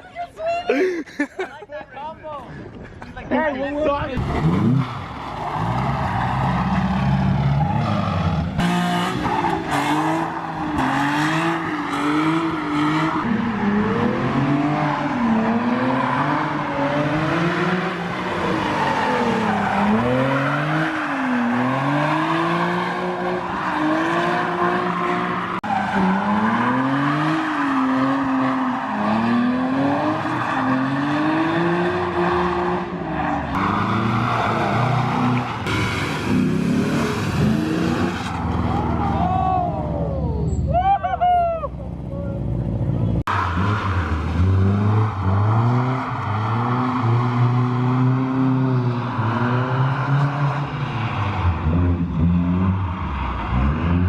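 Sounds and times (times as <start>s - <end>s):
car engine revving: 4.2s - 39.3s, 42.4s - 54.0s.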